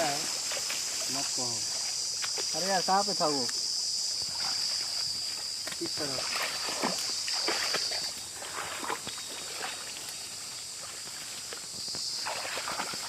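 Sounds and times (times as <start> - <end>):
footsteps sloshing through water: 0.0 - 2.7, 4.1 - 13.0.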